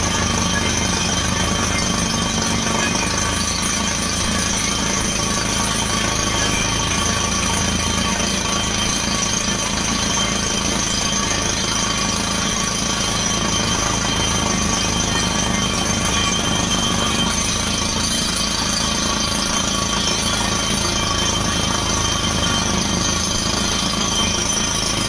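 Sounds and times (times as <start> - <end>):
drilling rig machine noise: 0.0 - 25.0
high whining tones: 0.0 - 25.0.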